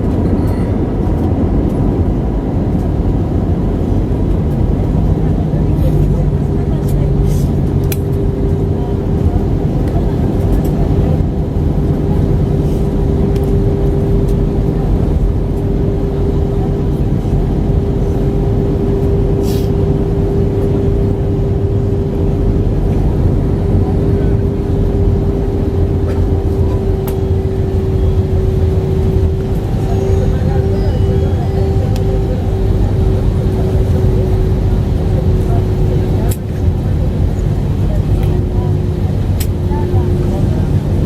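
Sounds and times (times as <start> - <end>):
airliner cabin engine noise: 0.0 - 41.0
mid-pitched hum: 0.0 - 41.0.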